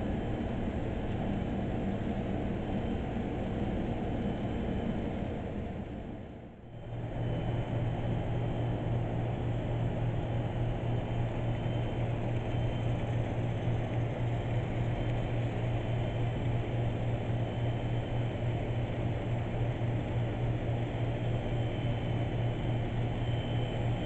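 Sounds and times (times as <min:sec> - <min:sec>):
high whine of small motors: 0:00.0 - 0:24.0
model train electric hum: 0:00.0 - 0:24.0.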